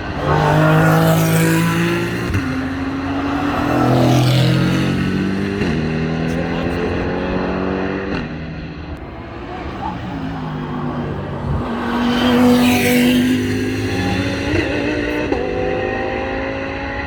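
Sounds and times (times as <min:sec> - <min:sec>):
race car engines: 0:00.0 - 0:17.0
race car passing close: 0:00.0 - 0:17.0.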